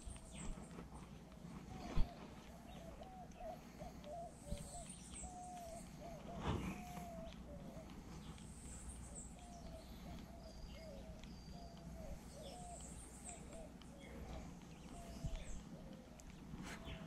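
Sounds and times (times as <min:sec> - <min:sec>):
birds cooing: 0:00.0 - 0:17.0.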